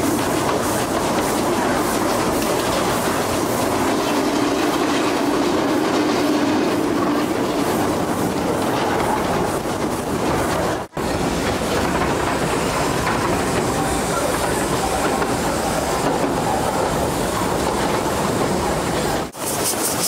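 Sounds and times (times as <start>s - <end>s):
train carriages rattling along track: 0.0s - 20.0s.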